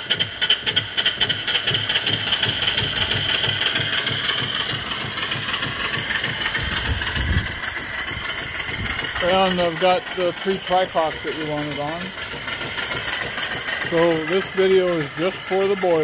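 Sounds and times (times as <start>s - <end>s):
steam engine exhaust chuffs: 0.0s - 16.0s.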